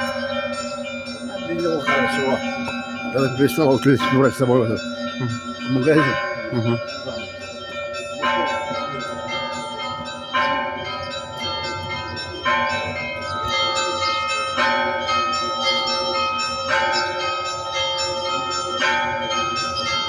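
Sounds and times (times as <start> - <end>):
heavy bell strokes: 0.0 - 16.5
church bells pealing: 0.0 - 20.0
small bells striking quickly: 0.0 - 20.0.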